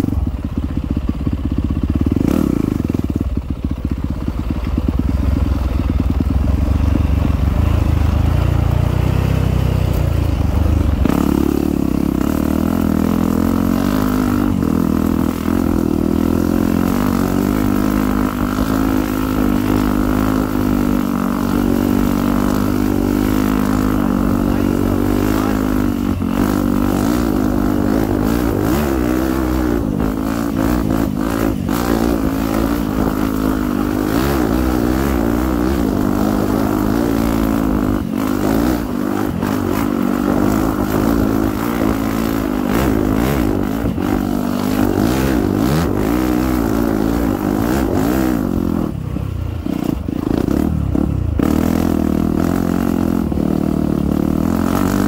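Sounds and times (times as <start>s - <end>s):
dirt bike engine revving: 1.8s - 3.3s, 5.0s - 55.0s.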